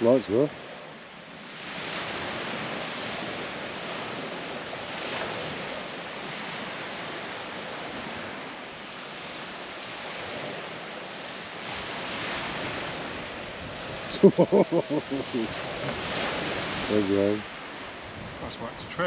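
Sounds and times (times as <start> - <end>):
waves washing on a beach: 0.0 - 19.0.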